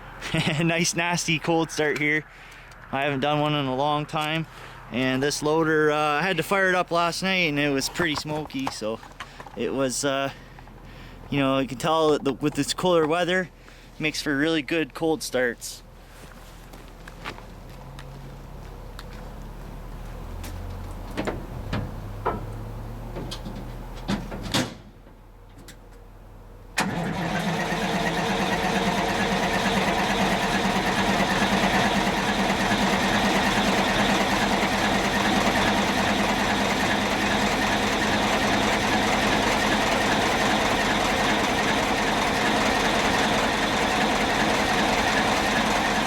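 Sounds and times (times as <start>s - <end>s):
diesel engine starting and running: 0.0s - 14.6s, 15.8s - 46.0s.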